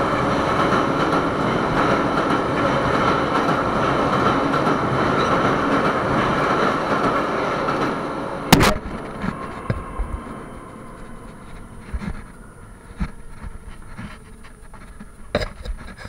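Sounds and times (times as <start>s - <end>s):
train rumbling through tunnel: 0.0s - 16.0s.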